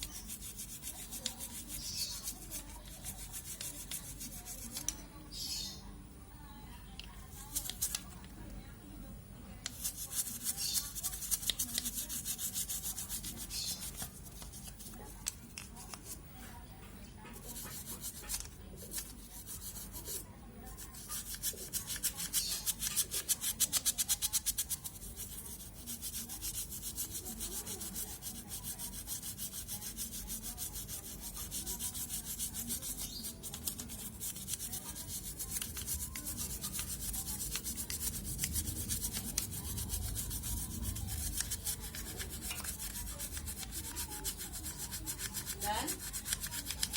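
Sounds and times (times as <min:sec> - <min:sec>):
scrubbing on a hard surface: 0:00.0 - 0:04.9, 0:09.7 - 0:16.3, 0:17.2 - 0:46.9.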